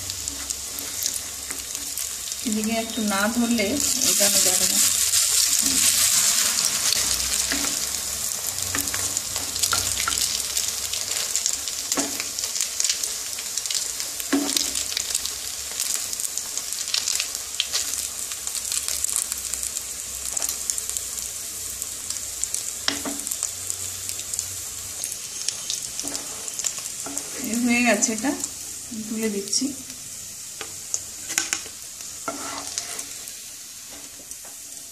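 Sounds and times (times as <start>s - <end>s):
food sizzling in oil: 0.0s - 34.9s.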